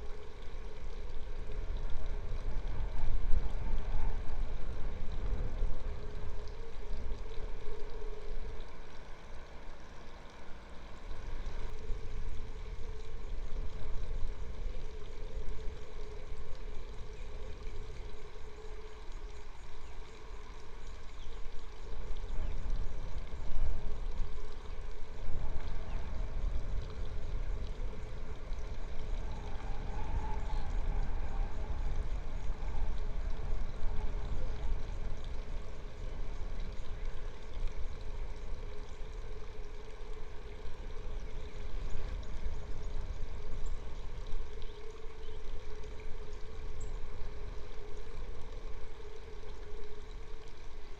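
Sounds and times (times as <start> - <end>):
faint steady hum: 0.0 - 50.9
wind rumbling on microphone: 0.0 - 50.9.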